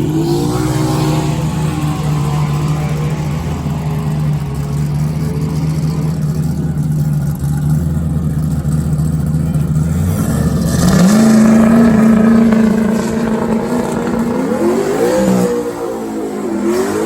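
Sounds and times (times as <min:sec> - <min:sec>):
low engine drone: 0:00.0 - 0:16.7
race car engine revving: 0:00.0 - 0:17.0.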